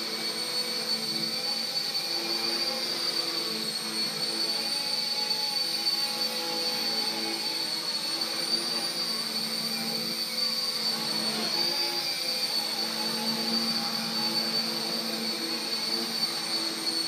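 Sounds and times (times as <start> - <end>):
high motor whine: 0.0 - 17.0.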